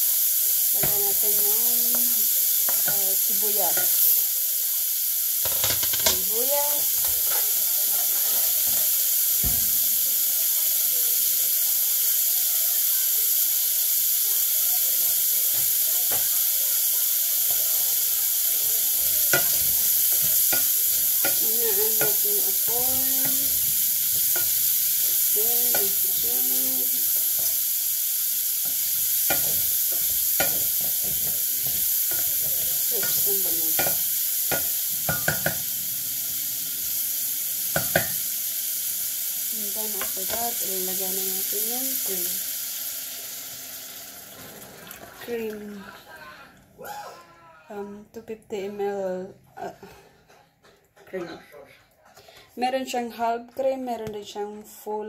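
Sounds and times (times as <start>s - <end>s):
bacon and onion sizzling: 0.0s - 47.0s.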